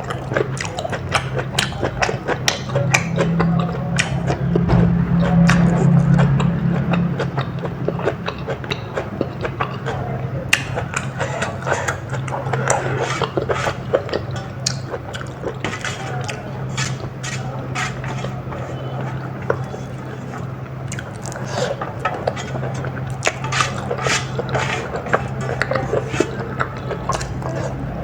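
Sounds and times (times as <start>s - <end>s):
chewing and crunching: 0.0s - 28.0s
steady low hum: 0.0s - 28.0s.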